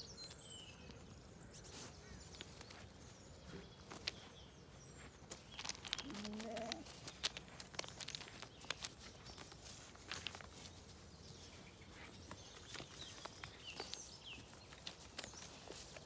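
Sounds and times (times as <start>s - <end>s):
bird chirps: 0.0s - 7.0s, 8.0s - 16.0s
hooves tapping on wood and gravel: 0.0s - 16.0s.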